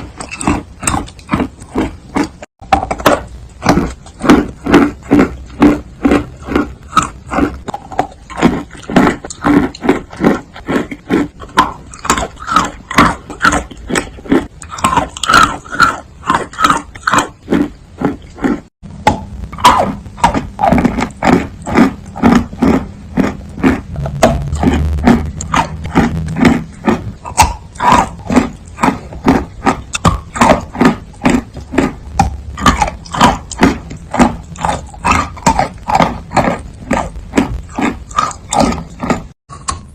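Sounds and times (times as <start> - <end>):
wet crunching chews of chalk: 0.0 - 18.7, 19.6 - 39.9.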